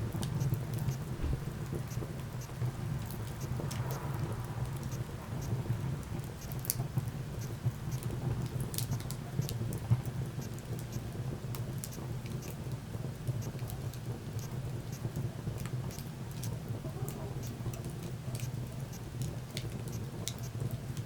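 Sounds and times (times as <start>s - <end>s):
low rumble of flames: 0.0s - 21.0s
wood fire crackling and popping: 0.1s - 21.0s.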